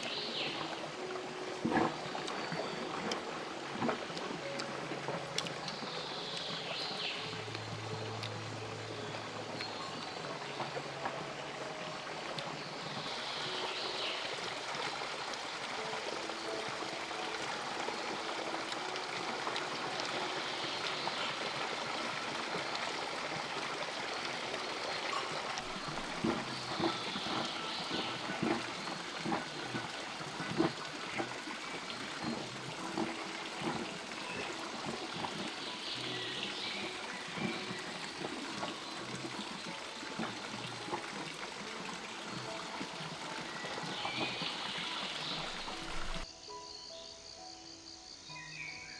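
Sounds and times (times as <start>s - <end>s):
water running and trickling: 0.0s - 46.3s.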